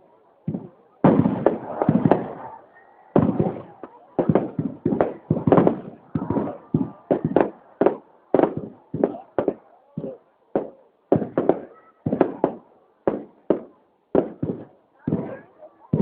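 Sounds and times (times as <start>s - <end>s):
fireworks bangs: 0.4s - 16.0s.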